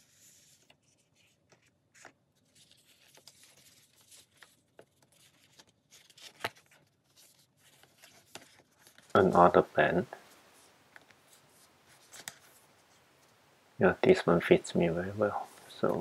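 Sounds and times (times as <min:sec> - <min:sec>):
cardboard and paper rustling: 0:00.0 - 0:13.4.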